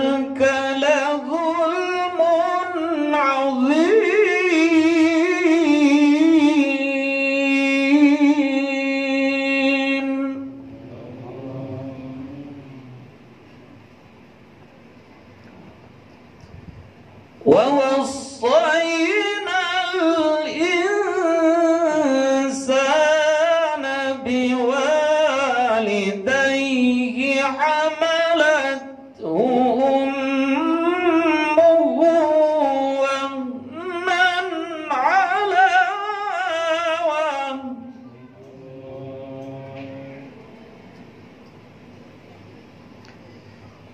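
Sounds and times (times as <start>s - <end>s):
man reciting melodically: 0.0s - 13.2s, 17.4s - 40.4s.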